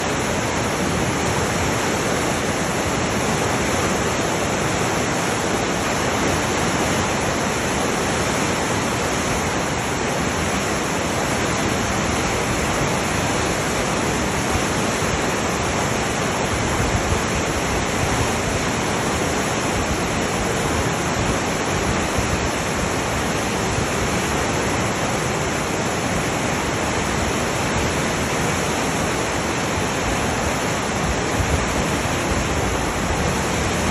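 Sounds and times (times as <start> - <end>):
river water rushing: 0.0 - 33.9.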